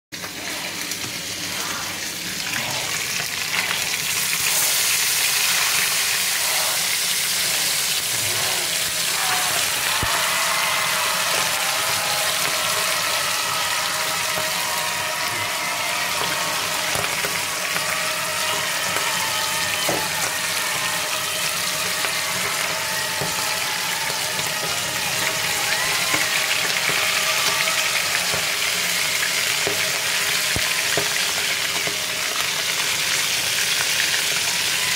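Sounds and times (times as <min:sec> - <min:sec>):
fish frying in oil: 0:00.2 - 0:34.9.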